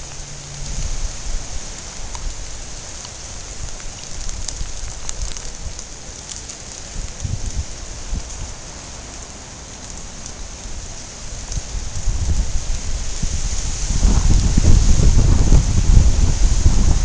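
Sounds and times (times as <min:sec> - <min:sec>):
raindrop ticks: 0:00.0 - 0:16.0
low rumble: 0:00.0 - 0:17.0
rain falling: 0:00.0 - 0:17.0.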